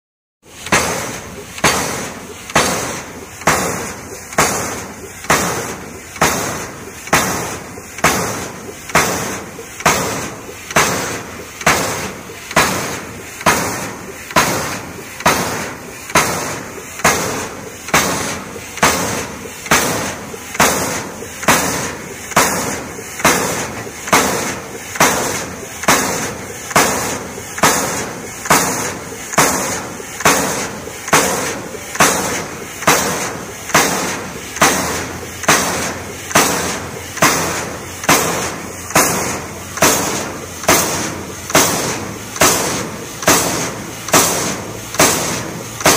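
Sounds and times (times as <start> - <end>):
pile-driver hammer pounding: 0.4 - 45.9.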